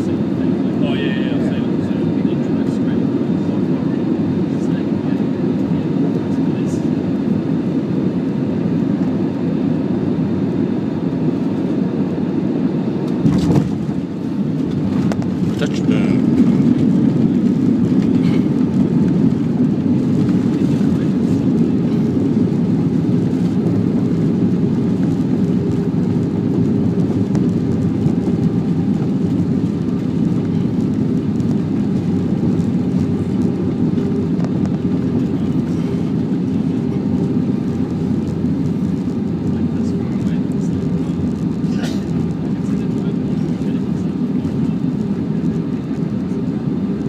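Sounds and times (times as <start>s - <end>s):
jet engines rumbling: 0.0s - 47.0s
wheels rumbling on runway: 0.0s - 47.0s.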